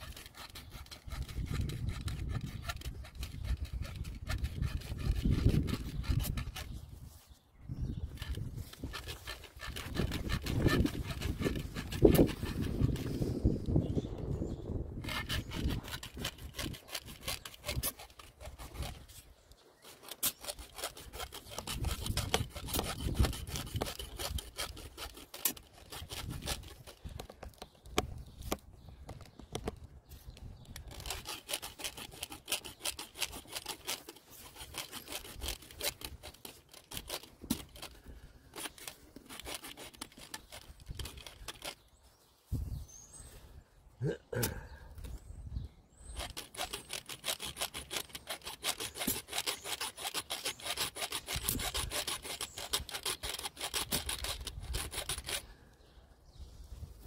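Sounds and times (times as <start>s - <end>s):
hand saw rasping: 0.0s - 7.0s, 8.0s - 13.8s, 15.0s - 28.1s, 30.8s - 41.9s, 46.0s - 55.6s.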